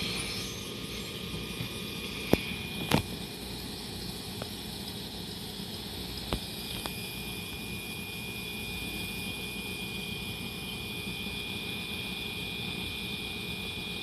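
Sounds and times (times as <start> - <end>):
railcar equipment humming: 0.0 - 14.0.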